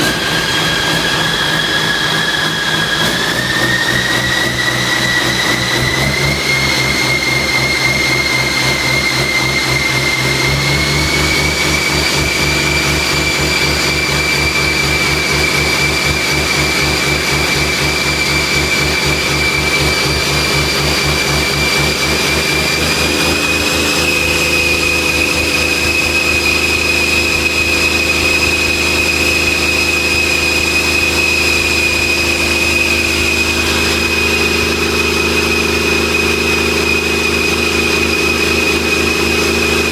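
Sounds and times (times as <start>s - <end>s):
diesel engine running: 0.0s - 39.9s
high whine: 0.0s - 39.9s.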